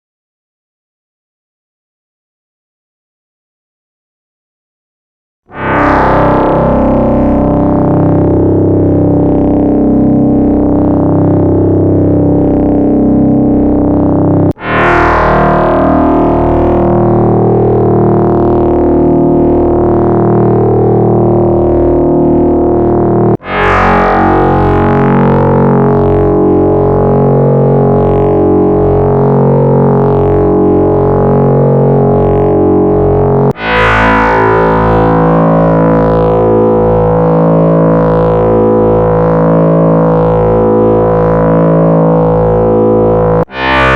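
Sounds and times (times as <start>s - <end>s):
synthesizer bass tone: 5.5s - 43.9s.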